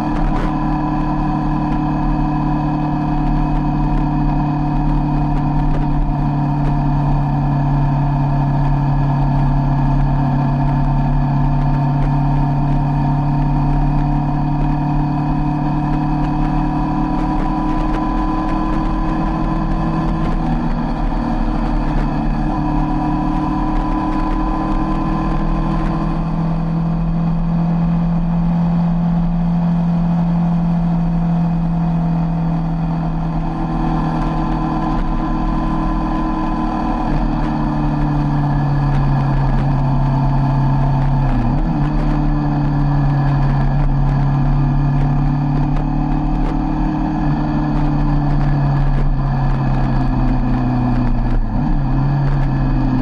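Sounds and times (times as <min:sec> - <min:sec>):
motorcycle engine cruising: 0:00.0 - 0:53.0
wind rumble on microphone: 0:00.0 - 0:53.0.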